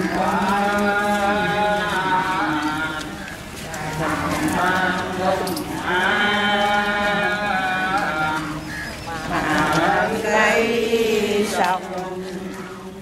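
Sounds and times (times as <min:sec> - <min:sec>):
people chanting in unison: 0:00.0 - 0:13.0.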